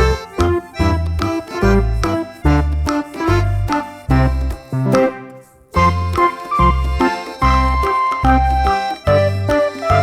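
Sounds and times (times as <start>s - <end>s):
light keyboard tune: 0.0s - 10.0s.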